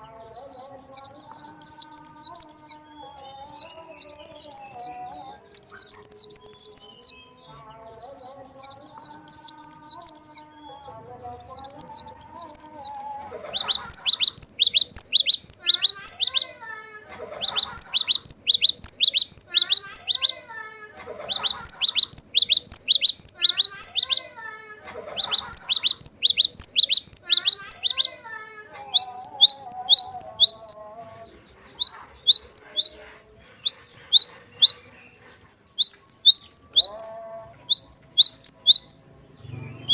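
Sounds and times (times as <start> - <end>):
bird singing high whistled notes: 0.0 - 16.7, 17.4 - 20.6, 21.3 - 24.4, 25.2 - 39.9
low chattering: 0.0 - 39.9.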